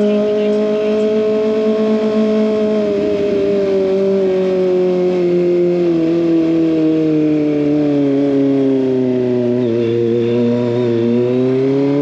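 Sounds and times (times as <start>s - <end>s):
motorcycle engine revs falling: 0.0s - 12.0s.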